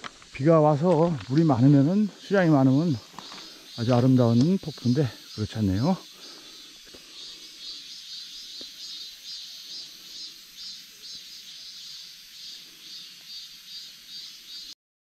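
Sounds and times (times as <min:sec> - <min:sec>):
faint steady hiss: 0:00.0 - 0:14.8
insects chirping: 0:00.0 - 0:14.8.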